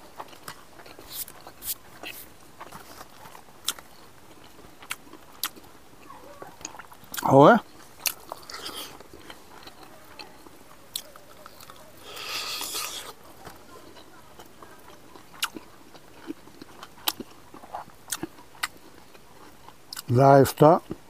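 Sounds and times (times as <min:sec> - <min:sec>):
man chewing and biting: 0:00.0 - 0:21.0.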